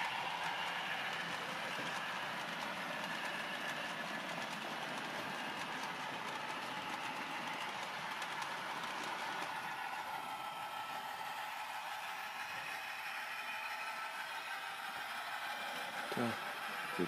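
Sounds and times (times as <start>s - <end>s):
model train whine: 0.0s - 17.0s.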